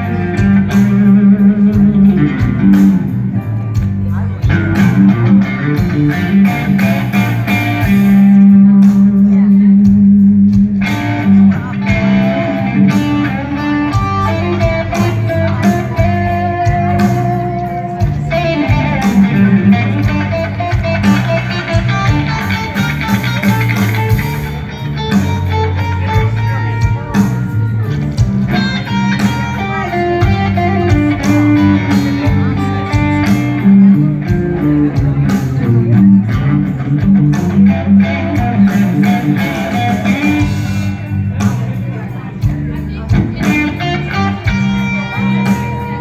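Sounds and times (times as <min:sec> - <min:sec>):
electric guitar lead lines: 0:00.0 - 0:46.0
low bass: 0:00.0 - 0:46.0.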